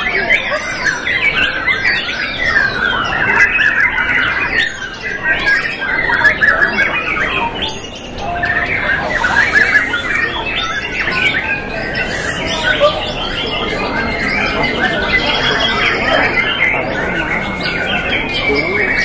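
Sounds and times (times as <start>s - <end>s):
many songbirds singing: 0.0s - 19.0s.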